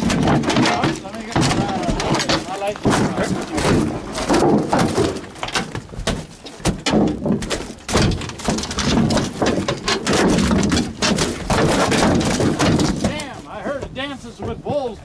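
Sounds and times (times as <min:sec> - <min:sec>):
fish thudding on aluminum deck: 0:00.0 - 0:14.9.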